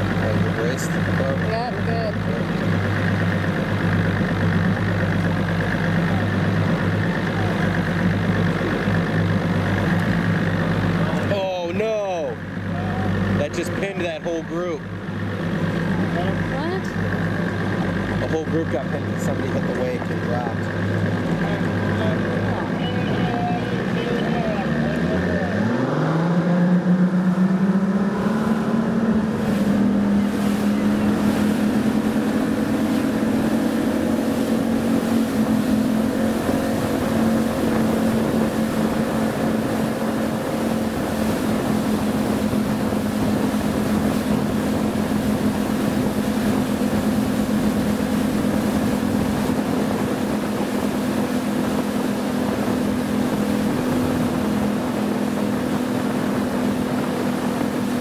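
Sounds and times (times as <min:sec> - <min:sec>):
motorboat engine: 0:00.0 - 0:58.0
water wash: 0:00.0 - 0:58.0.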